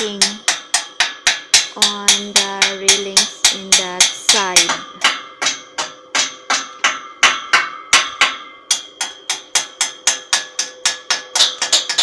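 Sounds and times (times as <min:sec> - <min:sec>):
hammer striking metal: 0:00.0 - 0:12.0.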